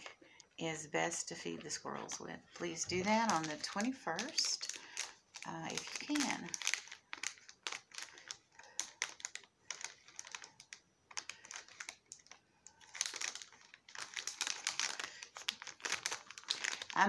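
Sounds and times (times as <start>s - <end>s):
plastic packaging crinkling: 1.5s - 17.0s.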